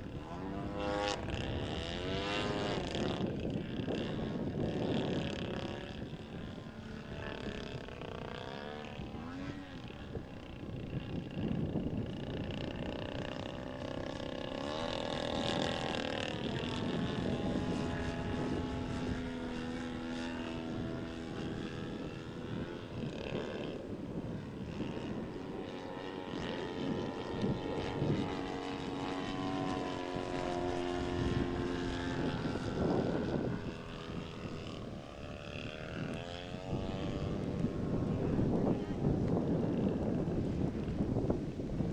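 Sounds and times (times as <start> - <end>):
model plane motor and propeller: 0.0 - 41.9.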